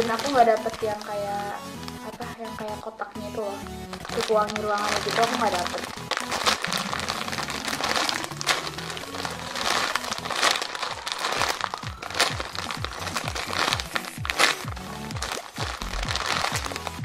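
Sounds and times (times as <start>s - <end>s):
foam squishy crinkling: 0.0s - 2.8s, 3.4s - 17.0s
background music with steady beat: 0.0s - 17.0s.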